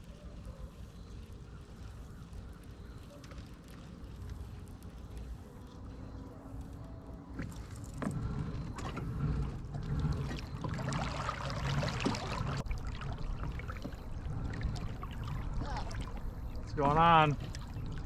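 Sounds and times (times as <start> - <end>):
water trickling around kayak: 0.0 - 18.0.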